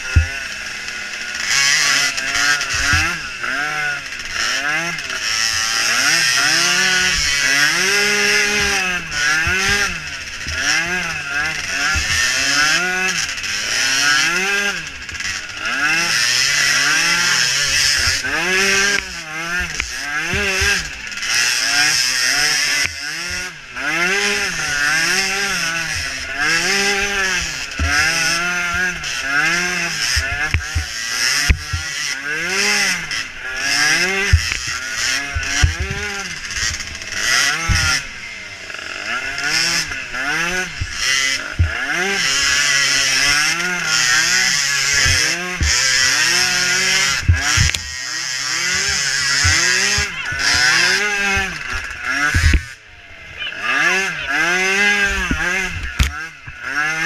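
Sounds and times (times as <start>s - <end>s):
small engine revving: 0.0s - 57.0s.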